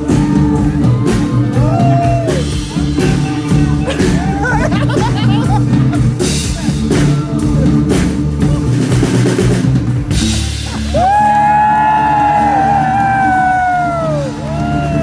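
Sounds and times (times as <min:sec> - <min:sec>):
drum fills: 0:00.0 - 0:15.0.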